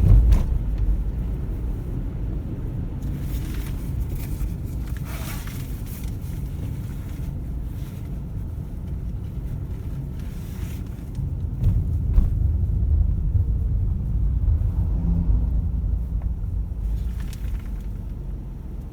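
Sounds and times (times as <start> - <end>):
car road and engine noise: 0.0 - 18.9.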